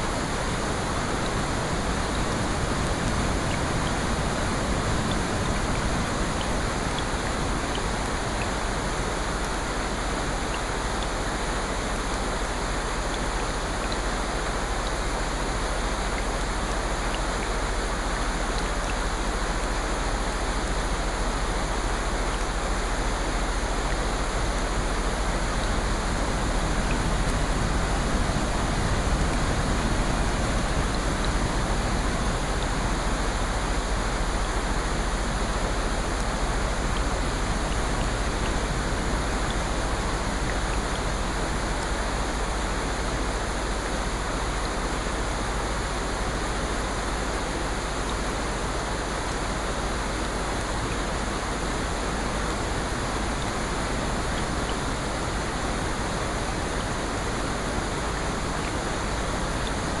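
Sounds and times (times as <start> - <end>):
rushing water: 0.0 - 60.0.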